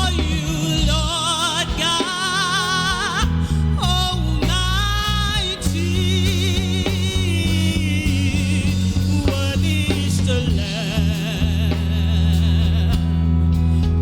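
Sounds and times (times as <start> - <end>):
low keyboard chords: 0.0 - 14.0.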